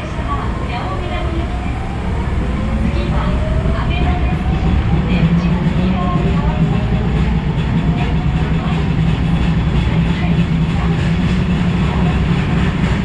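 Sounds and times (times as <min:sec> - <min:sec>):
subway train wheel and rail noise: 0:00.0 - 0:13.0.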